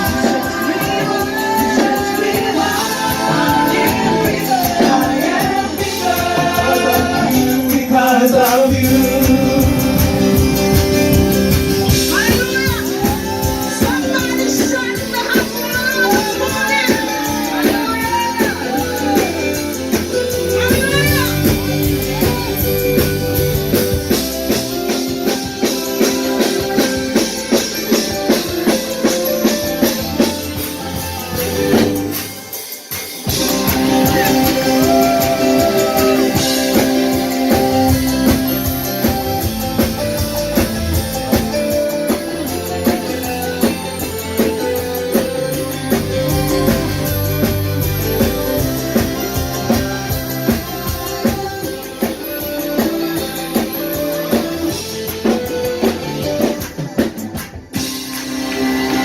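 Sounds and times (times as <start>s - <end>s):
live band music: 0.0s - 59.0s.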